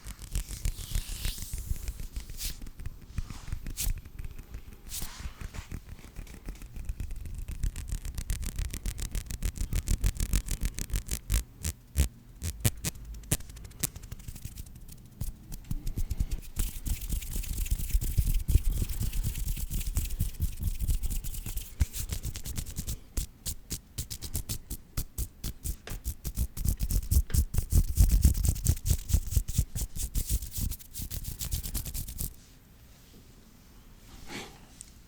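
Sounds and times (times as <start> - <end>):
hands rubbing and tapping: 0.0 - 32.4.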